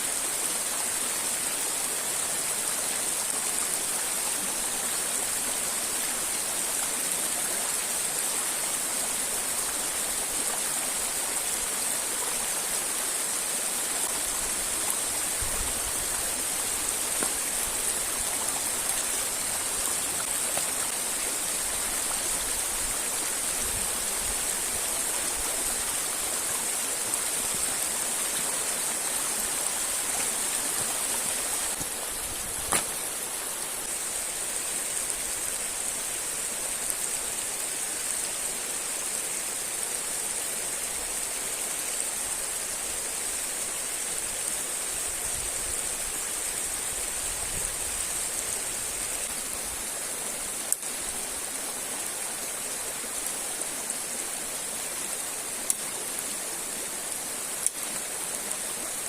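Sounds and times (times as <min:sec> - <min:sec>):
river and waterfalls rushing: 0:00.0 - 0:59.0.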